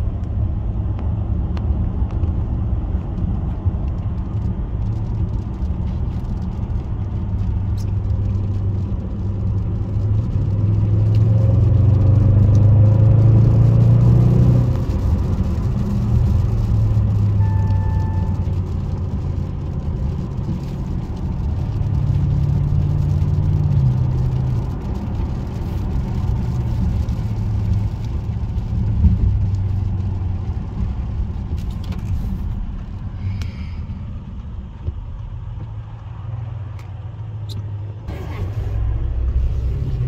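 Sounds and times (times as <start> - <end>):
car engine from inside cabin: 0.0 - 40.0
tyre noise on wet road: 0.0 - 40.0.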